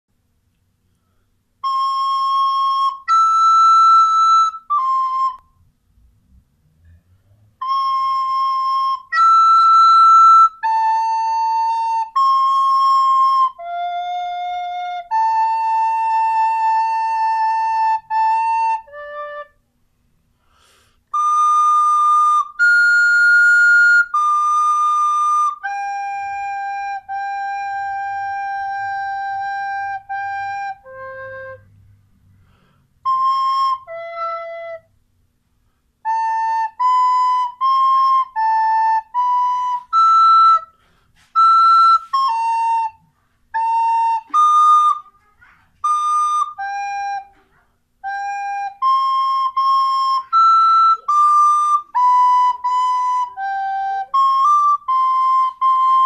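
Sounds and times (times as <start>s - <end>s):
recorder playing slow melody: 1.6s - 5.6s, 7.6s - 19.6s, 20.6s - 35.0s, 36.0s - 56.0s.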